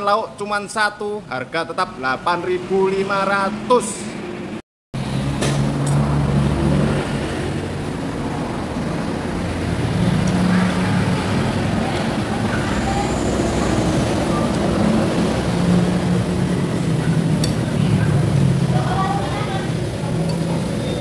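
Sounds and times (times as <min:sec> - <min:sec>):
road noise: 0:00.0 - 0:21.0
vehicle engines humming: 0:02.5 - 0:21.0.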